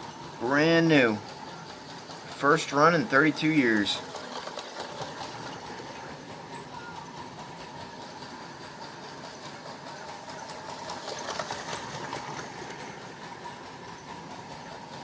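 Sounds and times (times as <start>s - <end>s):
toy train motor whir: 0.0s - 15.0s.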